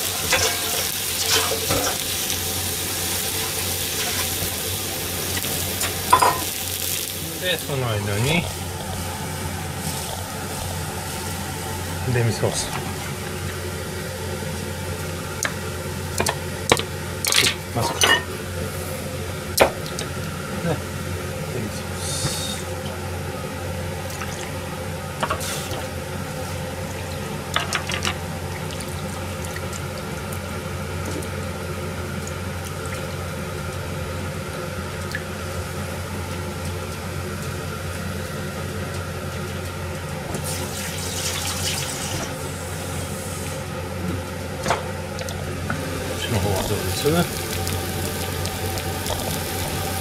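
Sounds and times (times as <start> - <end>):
water running from a tap: 0.0 - 18.0, 24.0 - 39.8, 40.4 - 43.4, 45.1 - 50.0
steady low hum: 0.0 - 50.0.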